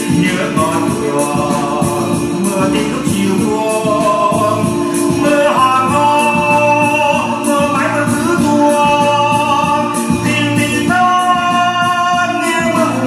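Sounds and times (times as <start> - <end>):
keyboard and band backing: 0.0 - 13.0
man singing a slow ballad: 0.0 - 13.0.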